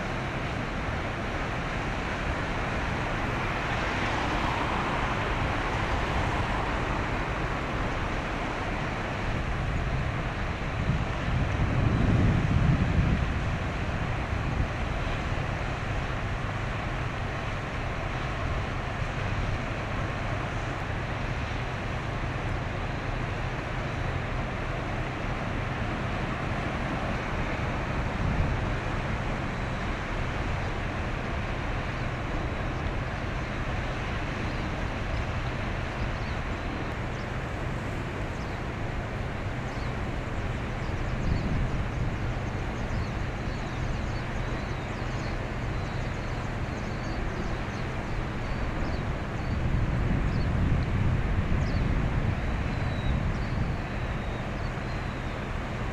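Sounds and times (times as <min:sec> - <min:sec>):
hiss of wind and water: 0:00.0 - 0:55.9
ship diesel engine drone: 0:00.0 - 0:55.9.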